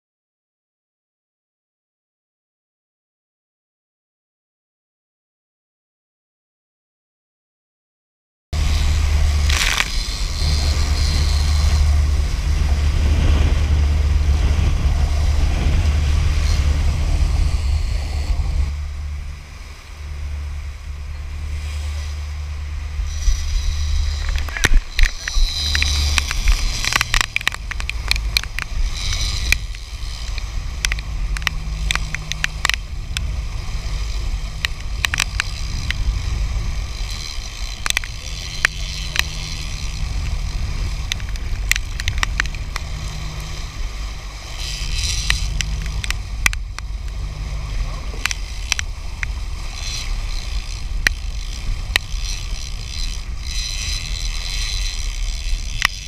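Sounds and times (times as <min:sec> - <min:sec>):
sharp knocks and crackles: 0:08.6 - 0:18.7, 0:21.1 - 0:56.0
boat engine droning: 0:08.6 - 0:56.0
wake water rushing: 0:08.6 - 0:56.0.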